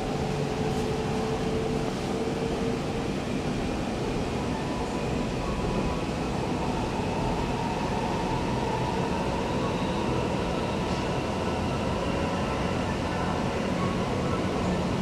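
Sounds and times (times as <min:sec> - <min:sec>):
metro train rumble: 0:00.0 - 0:15.0.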